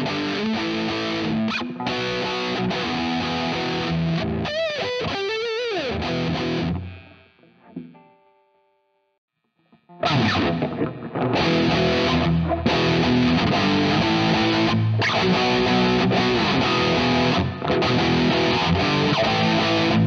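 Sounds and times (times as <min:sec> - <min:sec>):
distorted electric guitar chords: 0:00.0 - 0:08.4, 0:09.4 - 0:20.0.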